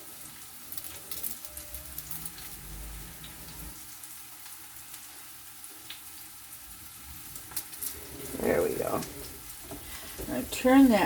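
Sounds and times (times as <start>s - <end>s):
oil crackling and popping: 0.0s - 11.0s
onions sizzling in a frying pan: 0.0s - 11.0s.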